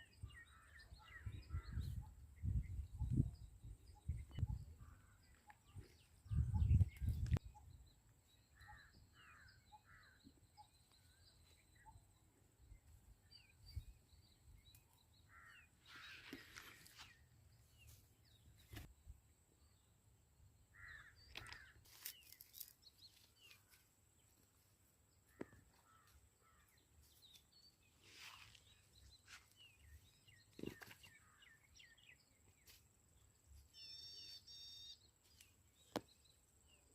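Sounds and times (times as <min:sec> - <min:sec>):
bird calls and chirps: 0:00.0 - 0:18.9, 0:20.7 - 0:24.4, 0:25.2 - 0:36.9.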